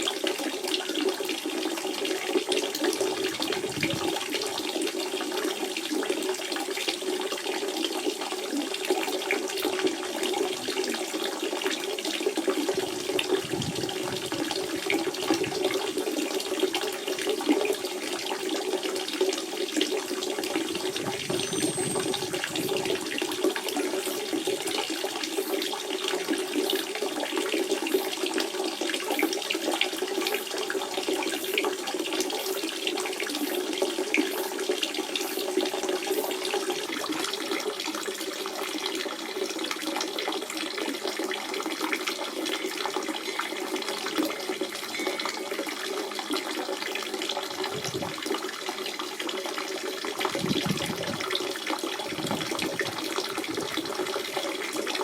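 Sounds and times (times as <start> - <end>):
spring water running and splashing: 0.0 - 55.0.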